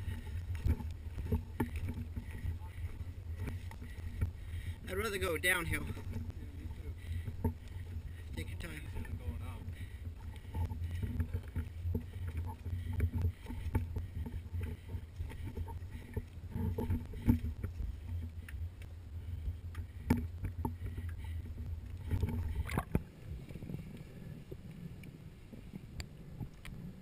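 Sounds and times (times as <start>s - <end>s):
scuba gear clicking: 0.0s - 4.9s, 5.8s - 24.1s
footsteps on rocky path: 0.0s - 22.7s
low rumble: 0.0s - 27.0s.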